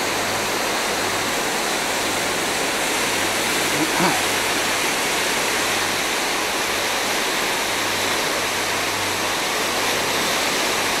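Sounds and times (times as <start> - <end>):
seawater rushing along ship: 0.0 - 11.0.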